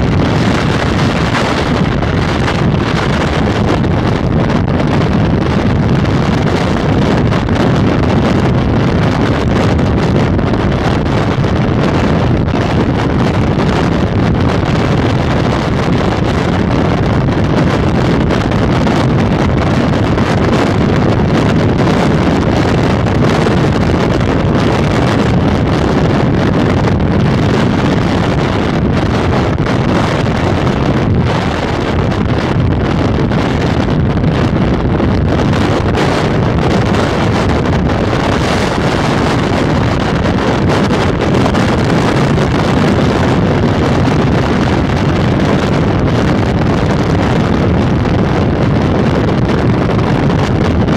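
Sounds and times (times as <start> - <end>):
road and engine rumble: 0.0 - 50.9
wind rushing on microphone: 0.0 - 50.9.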